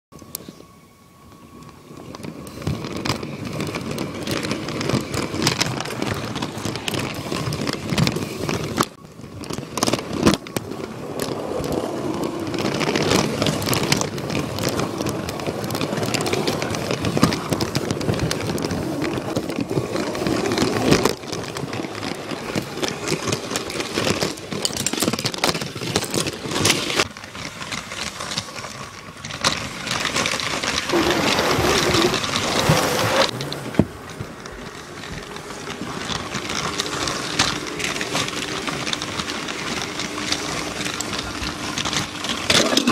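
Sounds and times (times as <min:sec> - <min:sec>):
toy train clattering on track: 0:01.6 - 0:42.9.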